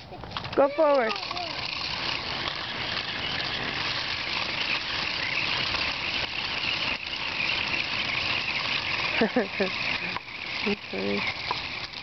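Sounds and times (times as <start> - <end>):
toy car motor whirring: 0.0 - 12.0.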